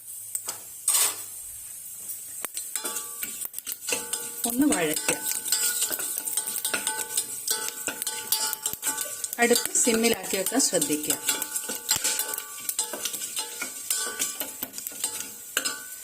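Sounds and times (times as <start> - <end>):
light sizzle: 0.0 - 16.0
utensil scraping metal pot: 0.8 - 1.3, 2.8 - 16.0.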